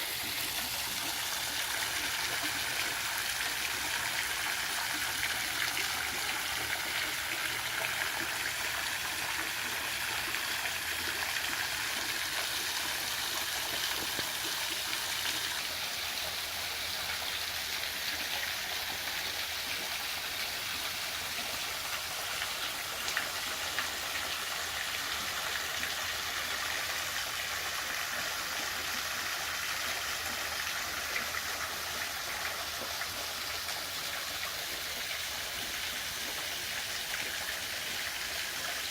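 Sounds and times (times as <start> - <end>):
waterfall splashing into pool: 0.0 - 38.9.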